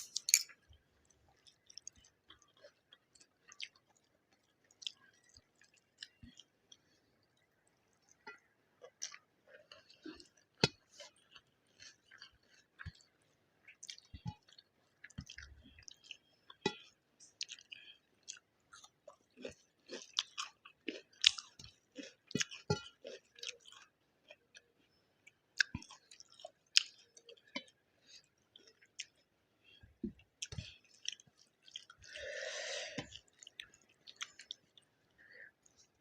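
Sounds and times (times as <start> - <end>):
person chewing food: 0.0 - 36.0.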